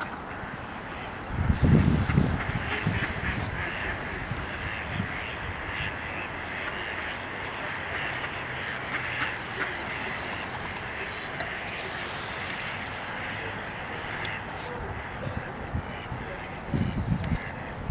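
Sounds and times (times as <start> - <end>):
distant engine hum: 0.0 - 17.9
ducks quacking: 0.0 - 17.9.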